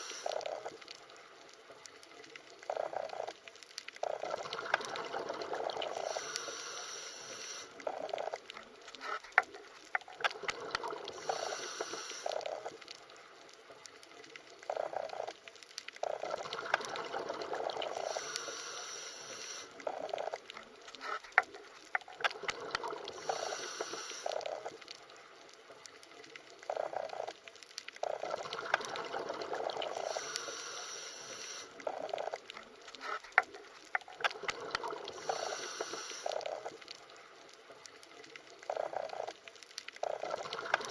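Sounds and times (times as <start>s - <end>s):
underwater bubbling and gurgling: 0.0s - 40.9s.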